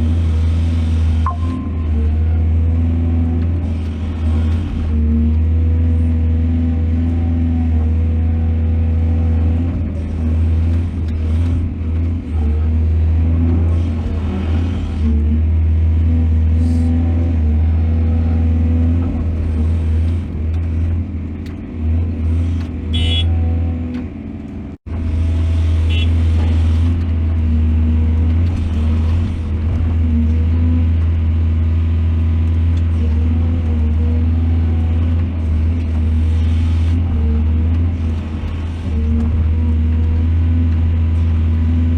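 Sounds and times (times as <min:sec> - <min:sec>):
excavator diesel engine drone: 0:00.0 - 0:41.9.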